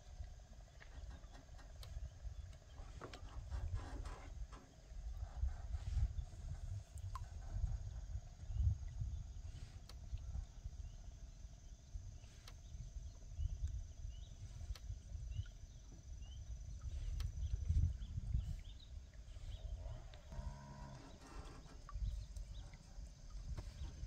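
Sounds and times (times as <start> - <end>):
wind buffeting microphone: 0.0 - 11.0, 12.6 - 24.0.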